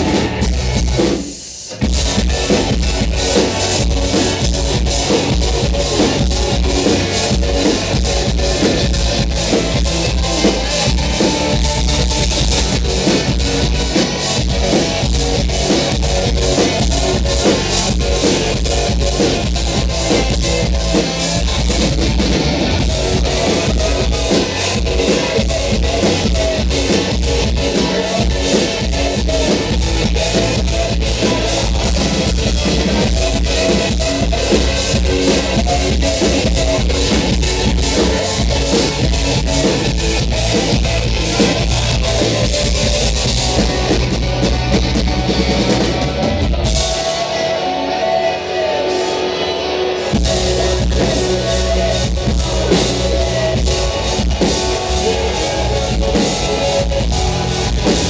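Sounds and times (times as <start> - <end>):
drum kit: 0.0 - 58.0
electric guitar: 0.0 - 58.0
rock band playing live: 0.0 - 58.0.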